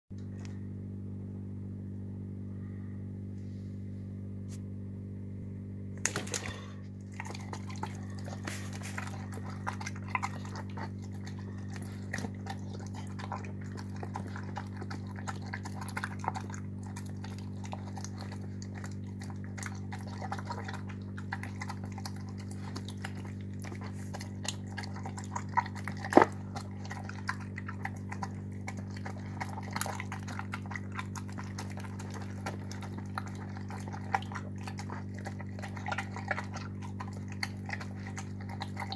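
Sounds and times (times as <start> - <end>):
steady low hum: 0.1 - 38.9
dog chewing and lapping food: 6.0 - 38.9.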